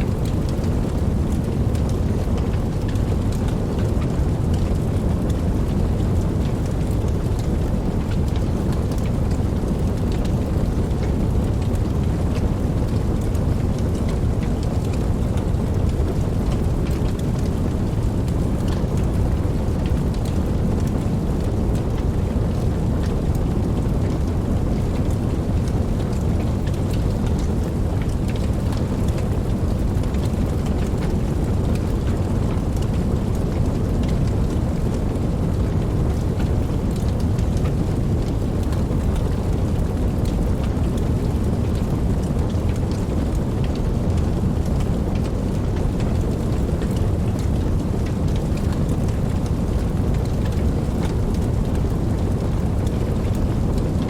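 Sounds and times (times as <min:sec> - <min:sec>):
heavy rain: 0:00.0 - 0:54.0
raindrop ticks: 0:00.0 - 0:54.0.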